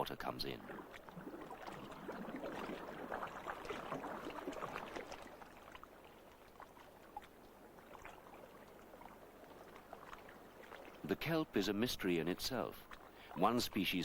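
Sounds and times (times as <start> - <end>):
water surging and bubbling: 0.0 - 14.0.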